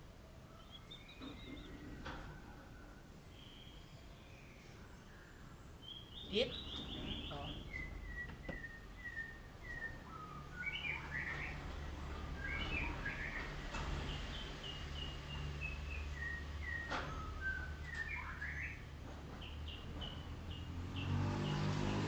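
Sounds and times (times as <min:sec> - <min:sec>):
bird singing whistled notes: 0:00.5 - 0:01.8, 0:03.3 - 0:11.7, 0:12.3 - 0:13.6, 0:14.3 - 0:21.2.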